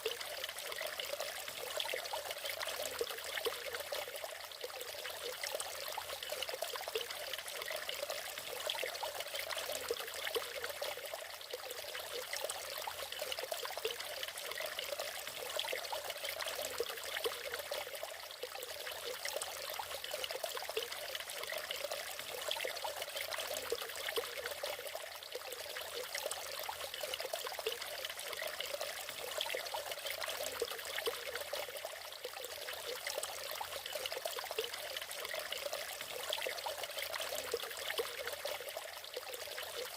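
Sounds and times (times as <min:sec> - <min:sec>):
waterfall splashing and trickling: 0:00.0 - 0:39.9.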